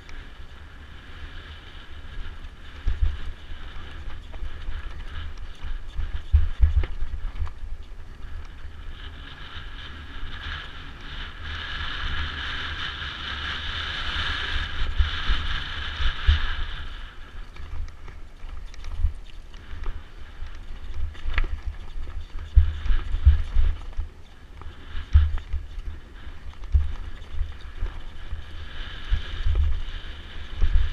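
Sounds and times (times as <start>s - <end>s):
bike rattling over stones: 0.0s - 30.9s
steady higher whir: 0.0s - 30.9s
wind buffeting: 0.0s - 30.9s.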